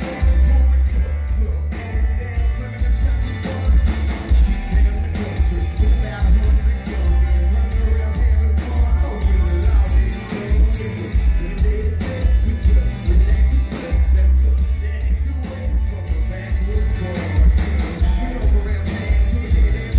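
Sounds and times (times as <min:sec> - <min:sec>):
live country rock band: 0:00.0 - 0:19.9
man singing: 0:00.0 - 0:19.9.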